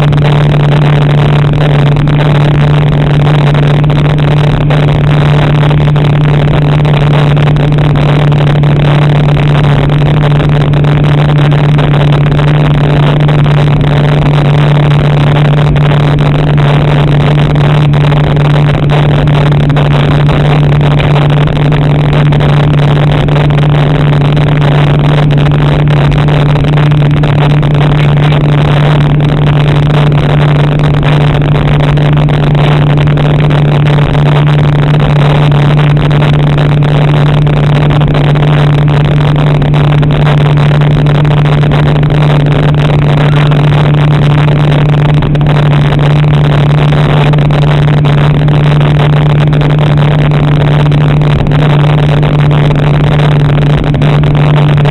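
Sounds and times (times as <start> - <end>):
jet ski engine droning: 0.0 - 54.9.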